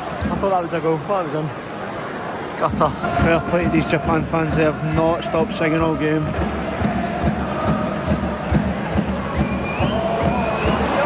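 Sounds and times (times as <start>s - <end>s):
crowd singing and chanting: 0.0s - 11.0s.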